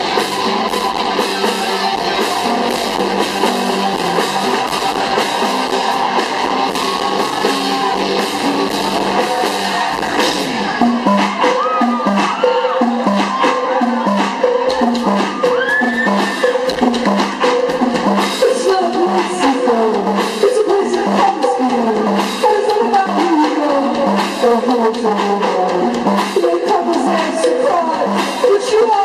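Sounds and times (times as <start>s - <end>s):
live band music through pa: 0.0s - 29.0s
pulsing drum beat: 0.0s - 29.0s.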